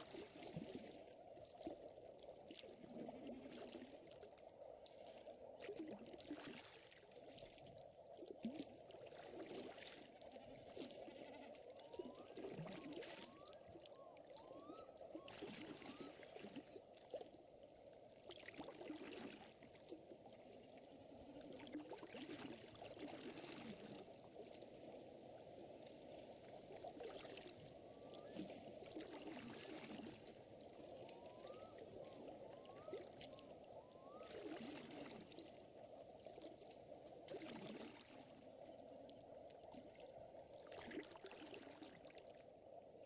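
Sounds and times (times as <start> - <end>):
water trickling and lapping: 0.0 - 43.0.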